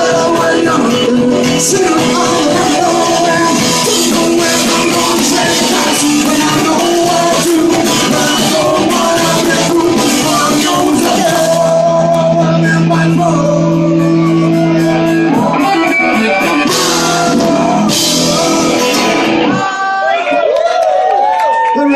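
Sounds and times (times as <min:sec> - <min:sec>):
person singing: 0:00.0 - 0:20.4
live rock band playing: 0:00.0 - 0:20.5.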